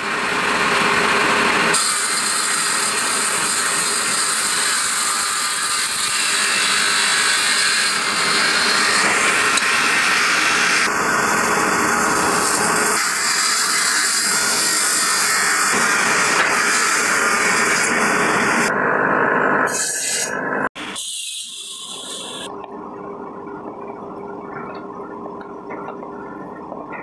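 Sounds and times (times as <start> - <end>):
woodworking machine cutting timber: 0.0 - 22.5.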